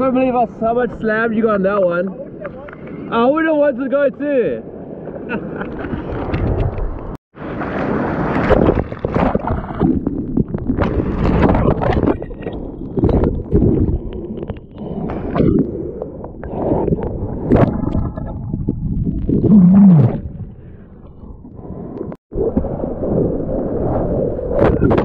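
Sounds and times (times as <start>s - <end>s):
surf water churning and splashing: 0.0s - 20.5s.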